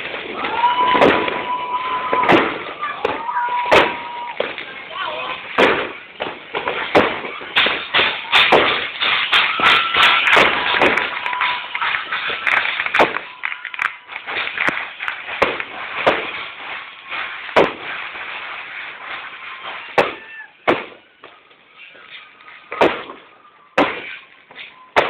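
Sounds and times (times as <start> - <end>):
firecrackers banging and crackling: 0.0 - 25.0.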